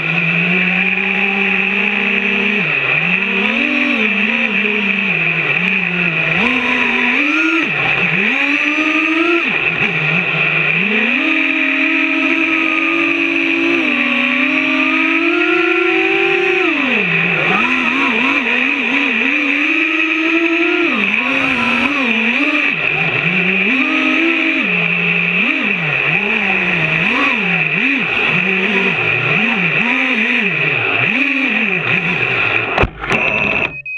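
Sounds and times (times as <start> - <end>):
drone motors whining: 0.0 - 33.9.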